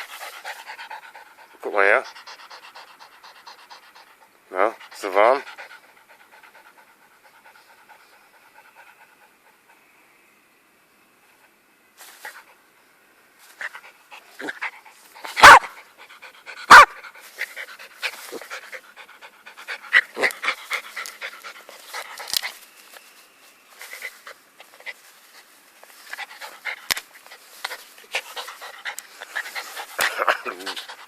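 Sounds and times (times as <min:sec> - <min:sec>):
dog panting: 0:00.0 - 0:09.8, 0:13.6 - 0:22.6, 0:23.8 - 0:31.0.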